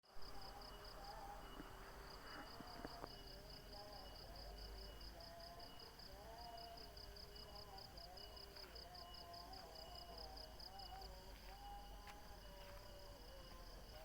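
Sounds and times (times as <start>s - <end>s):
insect chirping: 0.2s - 14.0s.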